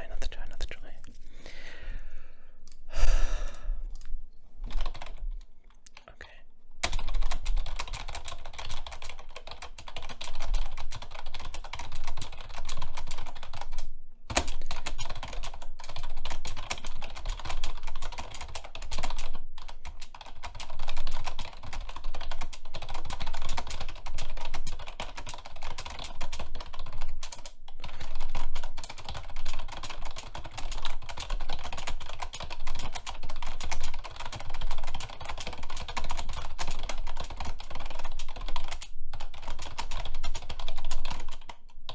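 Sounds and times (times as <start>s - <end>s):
fast typing on keyboard: 4.0s - 5.5s, 6.8s - 41.9s.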